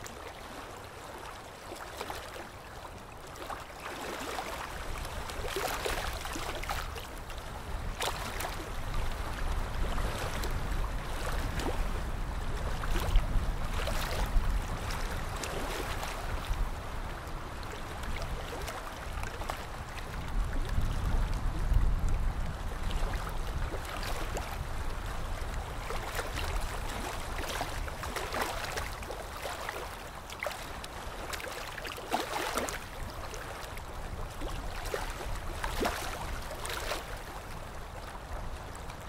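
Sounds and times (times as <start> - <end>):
water splashing and sloshing: 0.0 - 39.0.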